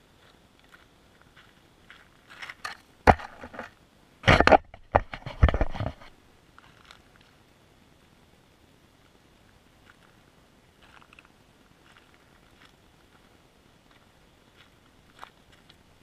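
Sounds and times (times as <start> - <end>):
gravel crunching and scraping: 0.0 - 7.4, 9.0 - 16.0.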